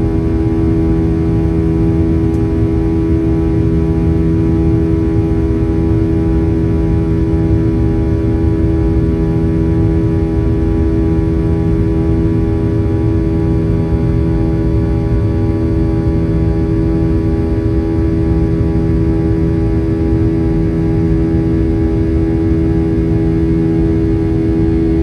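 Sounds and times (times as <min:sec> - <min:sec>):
airplane cabin drone: 0:00.0 - 0:25.0
steady humming tones: 0:00.0 - 0:25.0.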